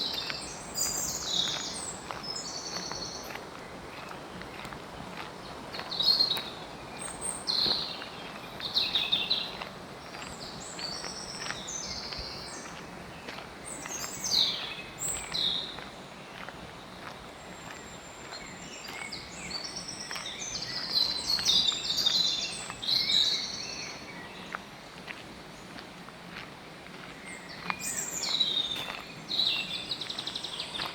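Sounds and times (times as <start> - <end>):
outdoor background hiss: 0.0 - 30.9.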